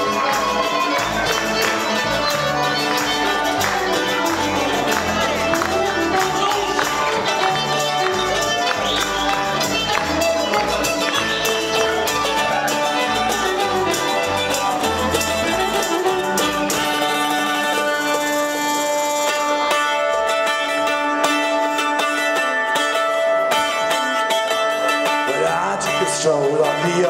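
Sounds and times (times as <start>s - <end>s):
fiddle: 0.0s - 27.0s
plucked string instrument: 0.0s - 27.0s.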